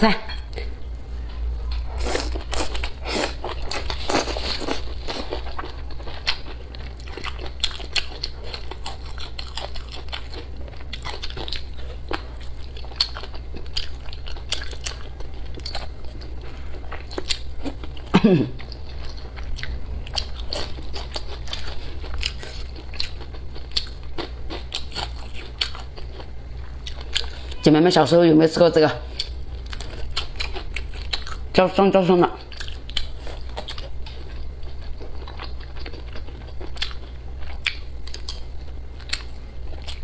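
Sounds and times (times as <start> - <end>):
steady low hum: 0.0 - 40.0
wet chewing and crunching: 1.7 - 27.6, 29.0 - 31.6, 32.3 - 40.0.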